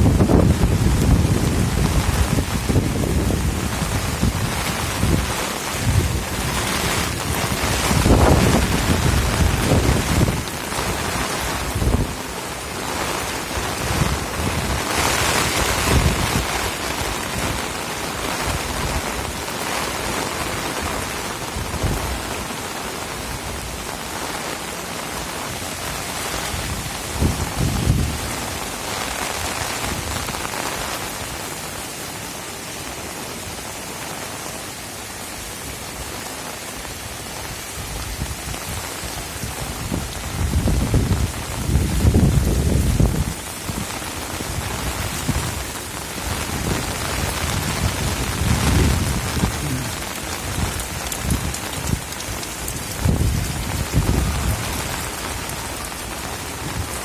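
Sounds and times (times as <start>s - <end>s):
wind buffeting microphone: 0.0s - 22.6s, 25.4s - 31.0s, 36.9s - 57.0s
heavy rain: 0.0s - 57.0s.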